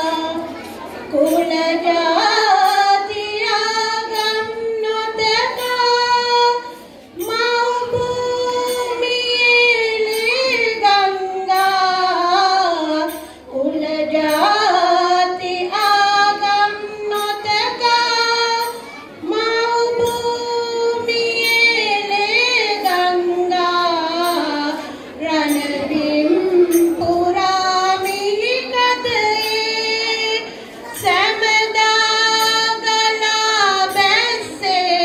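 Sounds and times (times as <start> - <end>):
child singing: 0.0 - 35.0.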